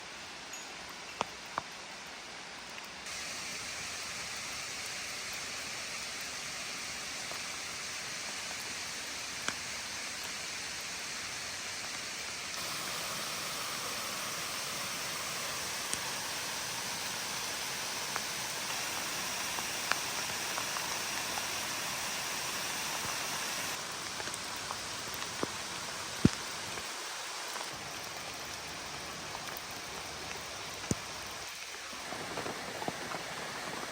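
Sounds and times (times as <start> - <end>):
steady rainfall hissing: 0.0 - 33.9.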